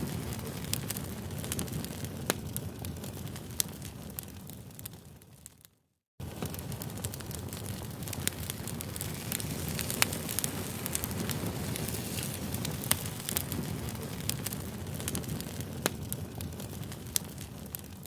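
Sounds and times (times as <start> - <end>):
campfire flames rushing: 0.0 - 5.4, 6.2 - 18.0
fire pops and crackles: 0.0 - 18.0.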